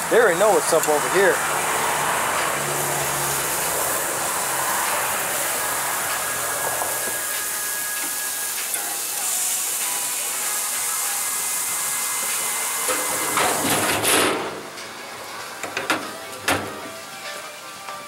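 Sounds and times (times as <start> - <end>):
patties sizzling on a grill: 0.0 - 18.0.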